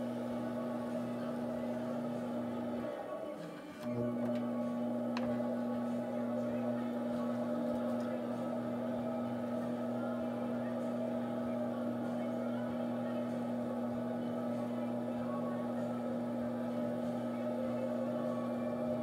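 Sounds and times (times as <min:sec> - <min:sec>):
pottery wheel motor humming: 0:00.0 - 0:19.0.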